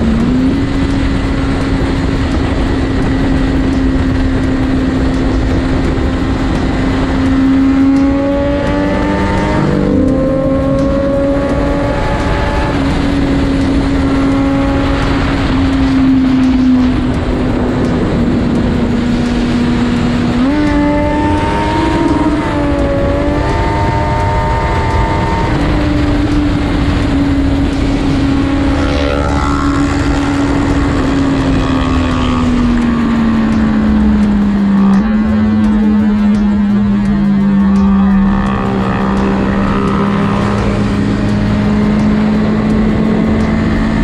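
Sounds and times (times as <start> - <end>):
motorcycle engine running: 0.0 - 44.0
wind rush: 0.0 - 44.0
wavering tone: 2.8 - 44.0.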